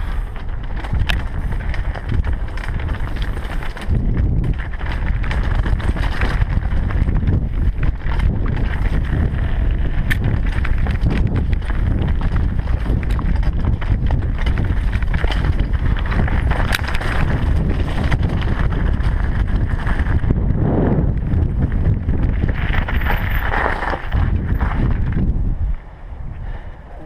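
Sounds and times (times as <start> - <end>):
bike rattling and knocking: 0.0 - 25.4
wind buffeting microphone: 0.0 - 27.0
tyres crunching over stones: 0.3 - 20.5, 21.1 - 25.3.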